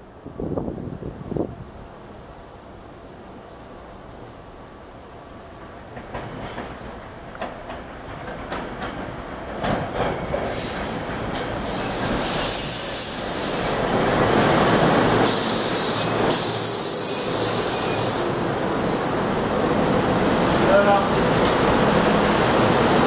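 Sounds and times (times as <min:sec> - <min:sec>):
electric train rolling past: 0:00.0 - 0:23.0.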